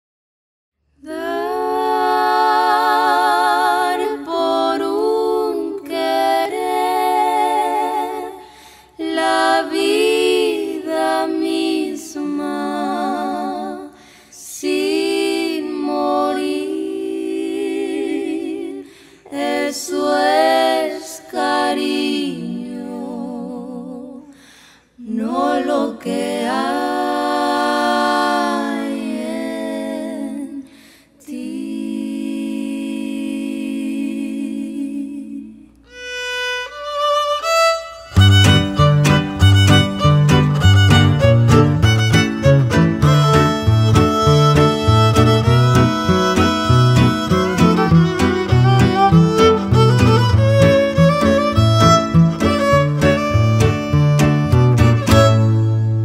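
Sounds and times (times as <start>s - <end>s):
vocal group singing a cappella: 1.0s - 36.0s, 42.4s - 55.3s.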